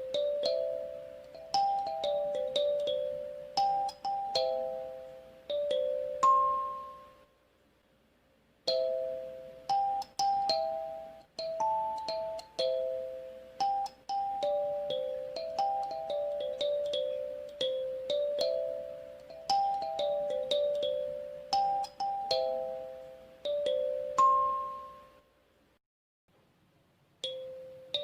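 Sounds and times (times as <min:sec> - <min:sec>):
kalimba melody: 0:00.0 - 0:07.2, 0:08.7 - 0:25.2, 0:27.2 - 0:28.0.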